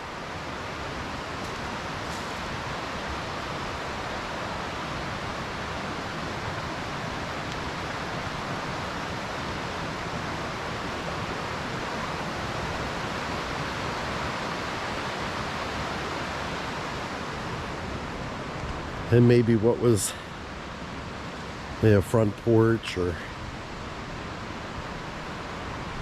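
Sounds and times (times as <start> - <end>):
creek rushing: 0.0 - 26.0.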